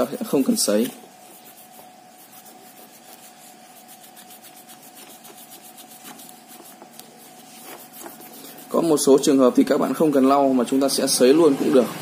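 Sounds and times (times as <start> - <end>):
cloth rubbing on circuit board: 0.0 - 10.2.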